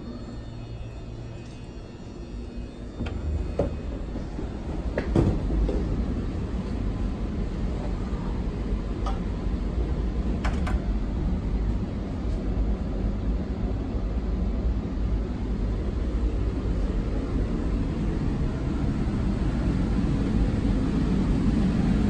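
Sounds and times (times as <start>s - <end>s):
train rumbling at platform: 0.0s - 22.0s.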